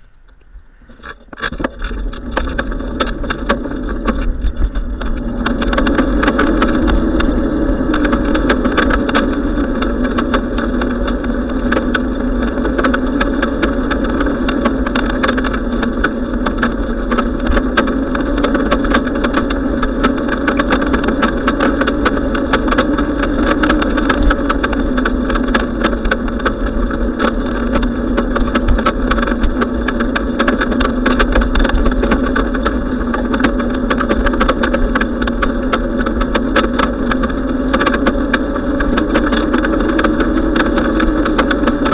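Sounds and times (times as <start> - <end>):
bicycle in motion: 0.0 - 41.9
small rattling clicks: 0.2 - 41.9.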